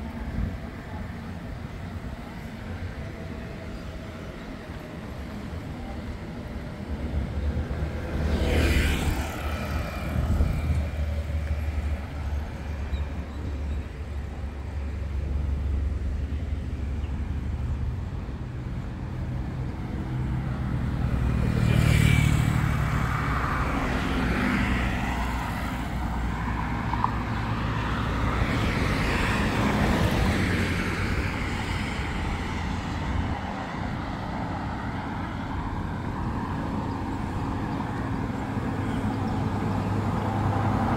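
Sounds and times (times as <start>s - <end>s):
low traffic rumble: 0.0s - 40.9s
vehicles passing: 0.0s - 40.9s.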